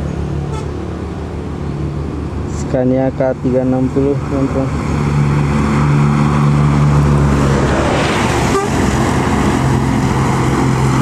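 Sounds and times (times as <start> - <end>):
bus diesel engine running: 0.0 - 11.0
rush of tyre and wind noise: 0.0 - 11.0.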